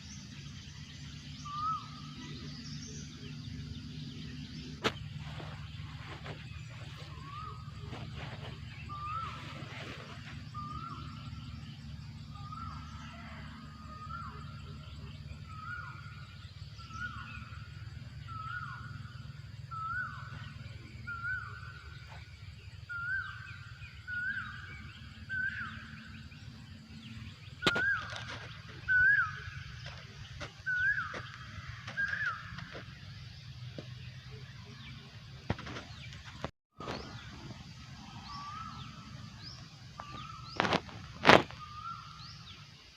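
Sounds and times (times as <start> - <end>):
bird calling whistled notes: 0.0 - 11.5, 12.2 - 19.1, 19.7 - 22.2, 22.9 - 33.2, 38.0 - 42.7
low hum: 0.0 - 42.6.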